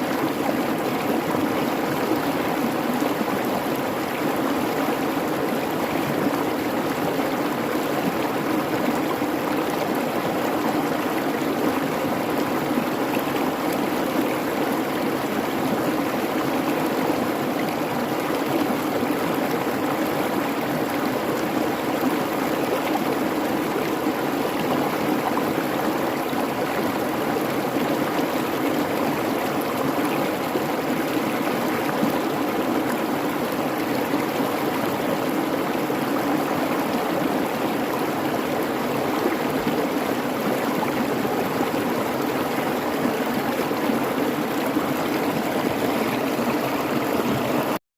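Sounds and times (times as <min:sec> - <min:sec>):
creek babbling: 0:00.0 - 0:47.8.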